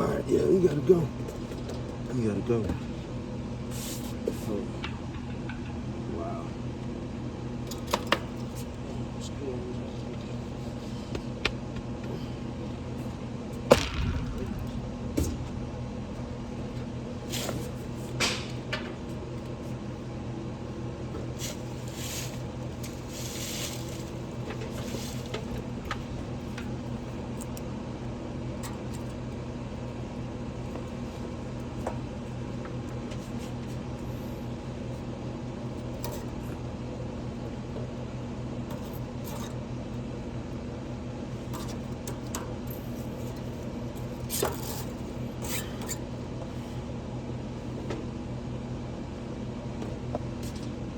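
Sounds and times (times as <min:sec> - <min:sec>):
low electrical hum: 0:00.0 - 0:50.9.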